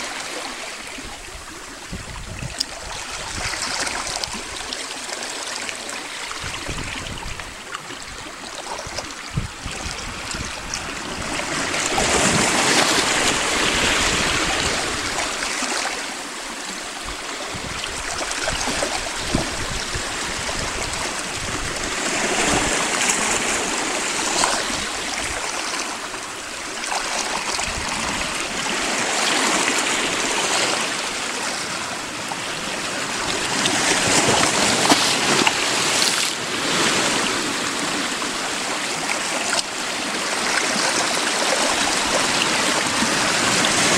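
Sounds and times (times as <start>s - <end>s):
sea waves washing around rocks: 0.0s - 43.9s.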